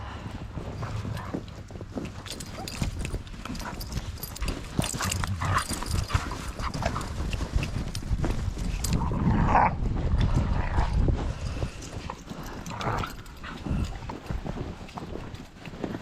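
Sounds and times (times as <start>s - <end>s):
footsteps crunching in snow: 0.0s - 16.0s.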